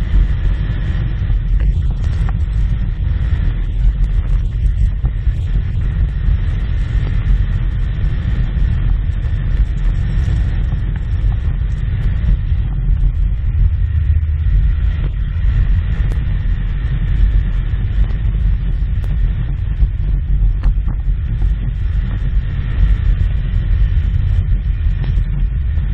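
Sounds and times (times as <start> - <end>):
small rattles and clicks: 0.0 - 25.5
vehicle engine rumbling: 0.0 - 25.9
wind buffeting microphone: 0.0 - 25.9.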